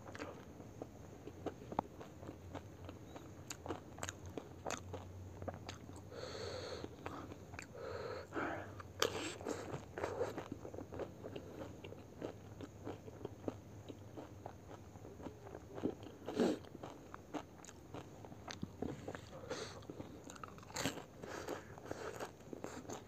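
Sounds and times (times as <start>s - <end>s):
crisp chewing crunches: 0.0s - 6.1s, 8.8s - 23.0s.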